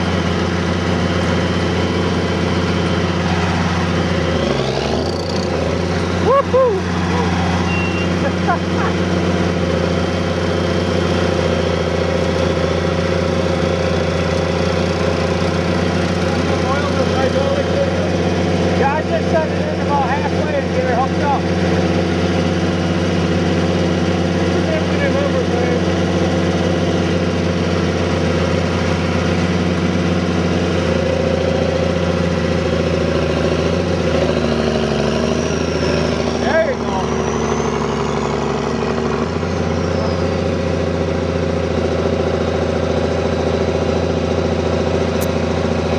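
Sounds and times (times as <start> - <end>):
tractor engine under load: 0.0 - 45.9.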